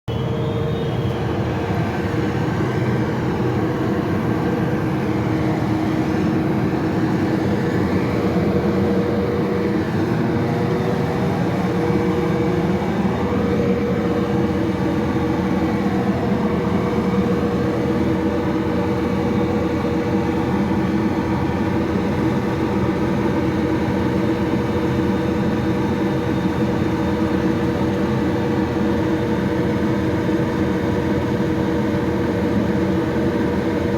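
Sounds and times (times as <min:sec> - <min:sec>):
train engine humming: 0:00.1 - 0:33.9.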